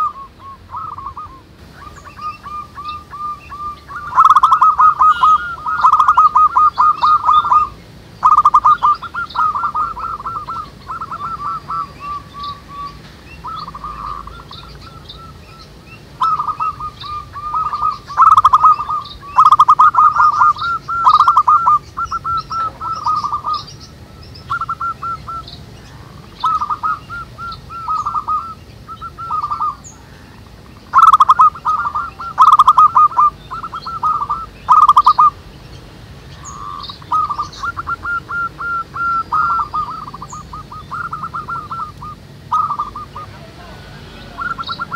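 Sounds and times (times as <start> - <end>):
doves cooing: 0.0 - 44.9
small birds chirping: 0.0 - 44.9.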